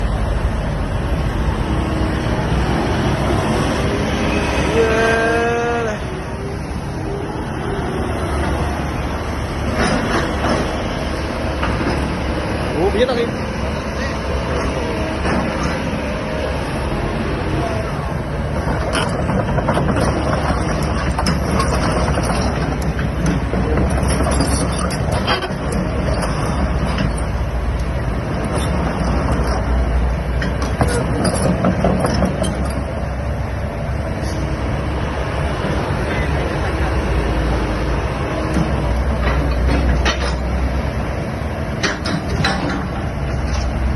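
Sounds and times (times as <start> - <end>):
excavator engine rumbling: 0.0 - 43.9.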